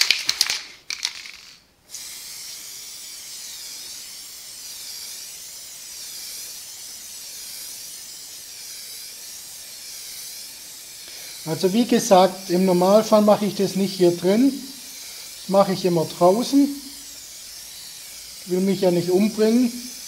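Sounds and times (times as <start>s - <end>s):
aerosol can rattling: 0.0s - 20.0s
spray can hissing: 0.0s - 20.0s.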